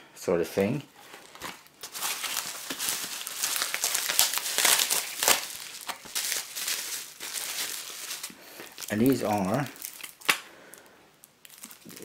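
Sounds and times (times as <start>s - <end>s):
package wrapping crinkling: 0.9s - 12.0s.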